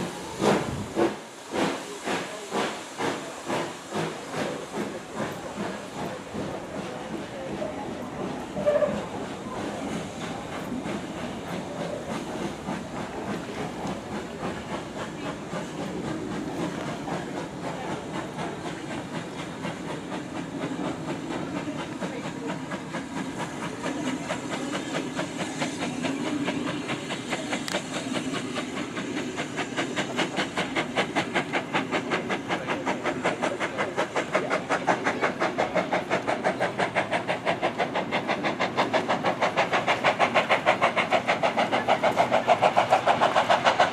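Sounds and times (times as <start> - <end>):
steam locomotive running: 0.0 - 43.9.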